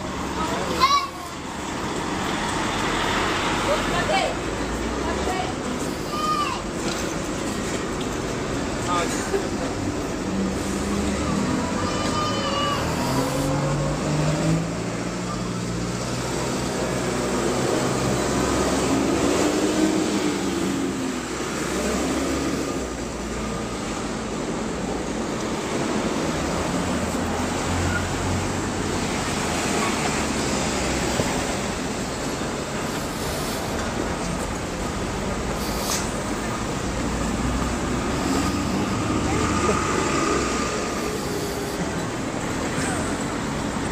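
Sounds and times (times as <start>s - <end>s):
cars passing: 0.0s - 43.9s
engine and road noise: 0.0s - 43.9s.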